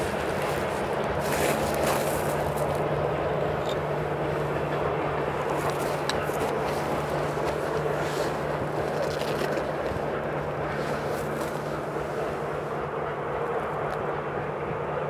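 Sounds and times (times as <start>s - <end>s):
constant low hum: 0.0s - 15.0s
distant freight train rumble: 0.0s - 15.0s.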